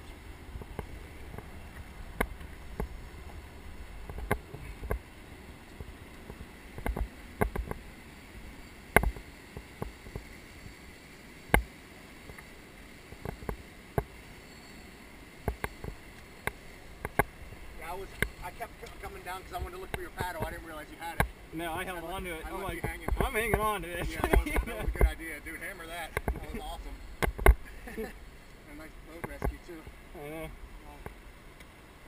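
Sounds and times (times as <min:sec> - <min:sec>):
water rushing: 0:00.0 - 0:32.0.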